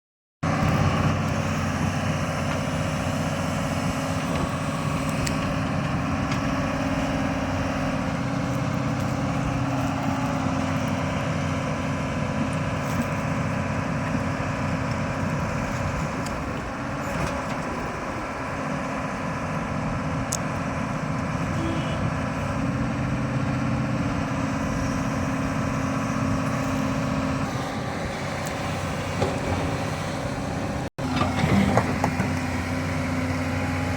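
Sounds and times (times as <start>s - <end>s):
excavator diesel engine running: 0.4s - 33.9s.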